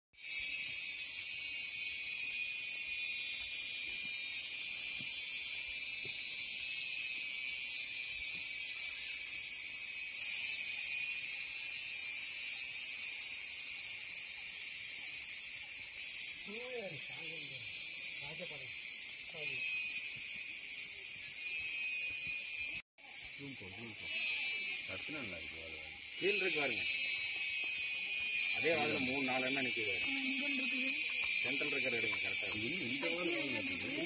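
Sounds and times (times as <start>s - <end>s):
cicada buzzing: 0.2s - 34.0s.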